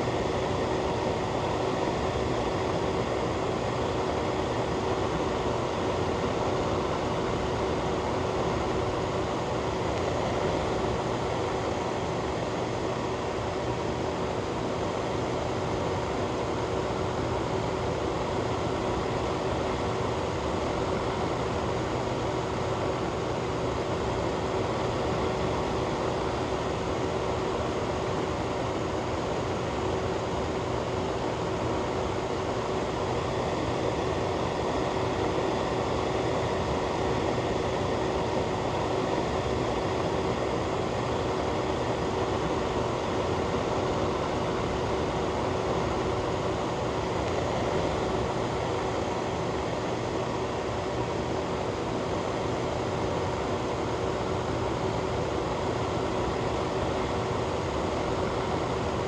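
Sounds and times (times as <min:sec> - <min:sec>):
ventilation fan running: 0:00.0 - 0:59.0.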